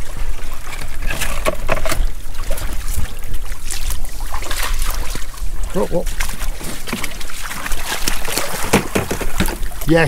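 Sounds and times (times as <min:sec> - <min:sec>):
sea water lapping against rocks: 0:00.0 - 0:10.0.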